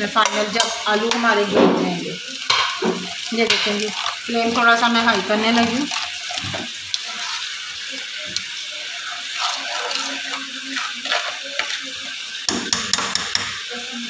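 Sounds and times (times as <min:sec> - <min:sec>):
gravy sizzling in frying pan: 0:00.0 - 0:14.0.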